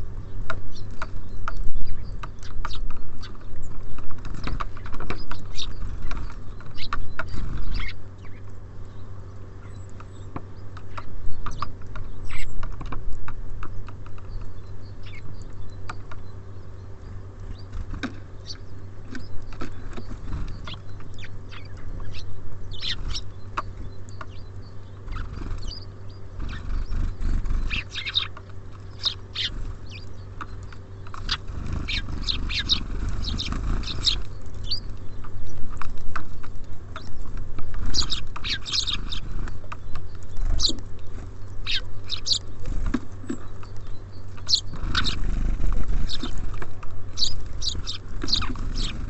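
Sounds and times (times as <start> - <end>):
songbirds chirping: 0.0 - 49.0.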